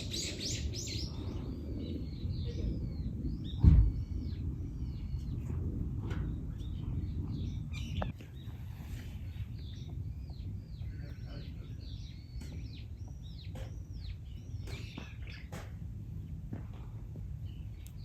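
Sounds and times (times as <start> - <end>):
birds chirping: 0.0 - 18.0
low outdoor rumble: 0.0 - 18.0.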